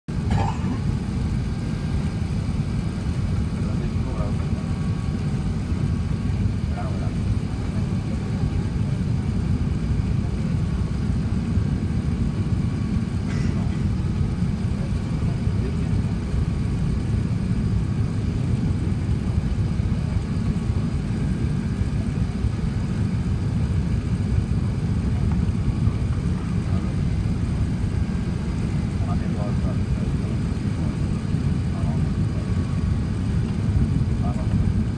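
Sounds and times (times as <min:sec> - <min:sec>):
aircraft cabin rumble: 0:00.1 - 0:34.9.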